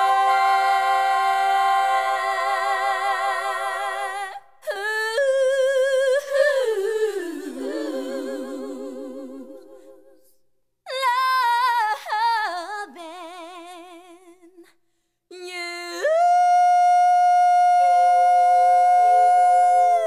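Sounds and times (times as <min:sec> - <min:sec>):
women singing a cappella: 0:00.0 - 0:20.0.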